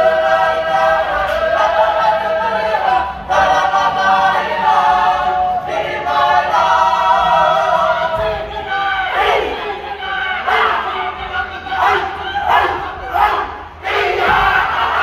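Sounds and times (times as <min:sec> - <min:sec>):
group singing in harmony: 0:00.0 - 0:15.0.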